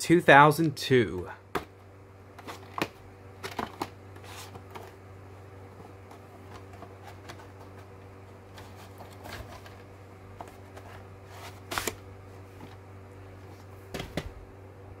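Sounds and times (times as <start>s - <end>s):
cassette case rustling and scraping: 1.6s - 14.3s.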